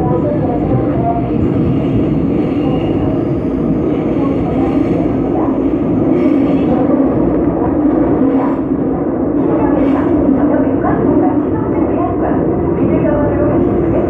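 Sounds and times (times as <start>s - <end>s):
rumble of train wheels on rail: 0.0s - 14.0s.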